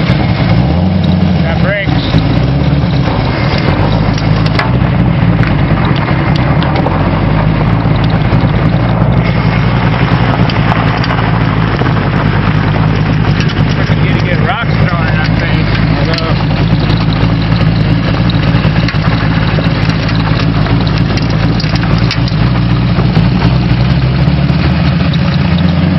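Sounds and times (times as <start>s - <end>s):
vehicle engine running steadily: 0.0s - 25.9s.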